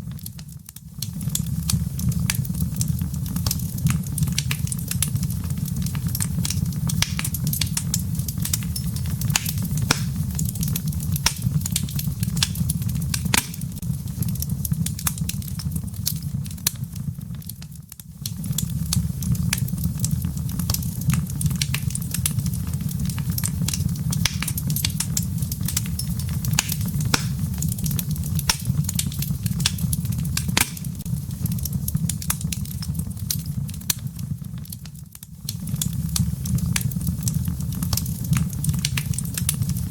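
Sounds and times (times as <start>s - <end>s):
firewood crackling and popping: 0.0s - 39.9s
low rumble of flames: 0.0s - 39.9s.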